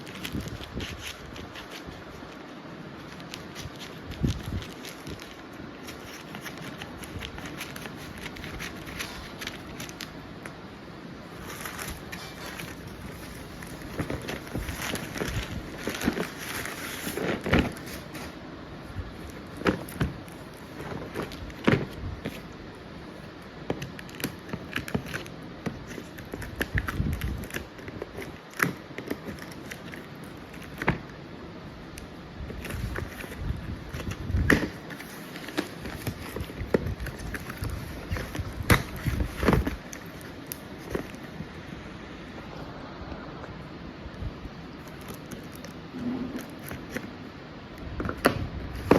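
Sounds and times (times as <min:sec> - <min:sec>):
packaging rustling: 0:00.0 - 0:10.6, 0:11.2 - 0:18.4, 0:19.0 - 0:31.1, 0:31.9 - 0:41.6.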